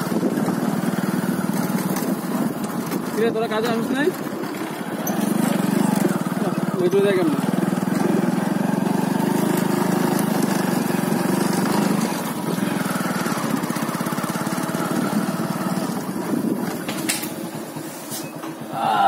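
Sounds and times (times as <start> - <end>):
small engine running: 0.0 - 18.1.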